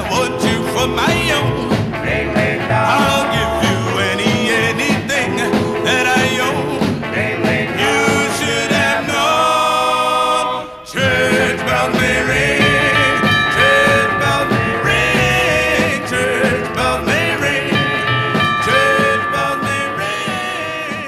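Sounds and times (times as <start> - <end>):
rock and roll band: 0.0 - 21.0
vocal group singing in harmony: 0.0 - 21.0.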